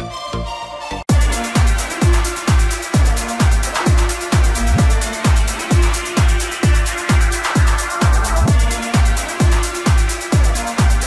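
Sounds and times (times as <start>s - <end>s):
fast ticking hi-hat: 1.1s - 11.0s
kick drum: 1.1s - 11.0s.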